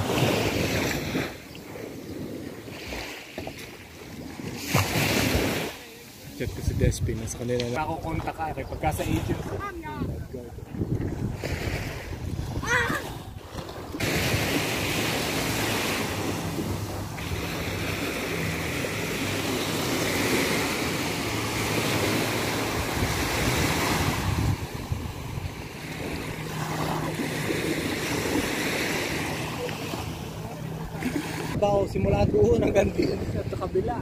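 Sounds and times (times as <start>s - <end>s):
small waves on sandy beach: 0.0s - 34.0s
wind on microphone: 0.0s - 34.0s.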